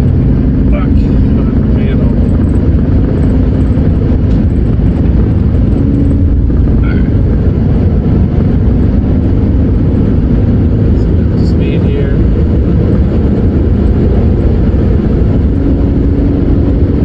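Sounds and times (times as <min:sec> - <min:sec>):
road noise: 0:00.0 - 0:17.0
van engine rumble: 0:00.0 - 0:17.0.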